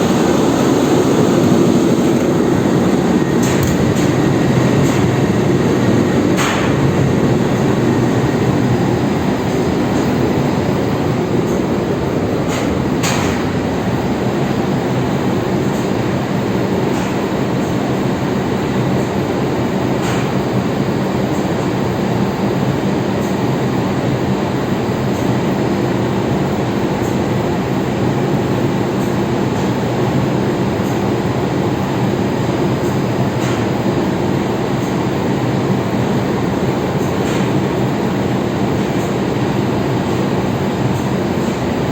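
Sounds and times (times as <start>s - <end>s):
engine room machinery hum: 0.0s - 41.9s.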